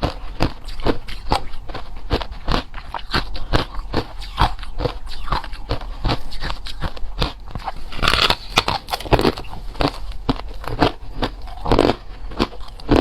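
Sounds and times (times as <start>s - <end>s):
crushed ice being chewed: 0.0s - 13.0s.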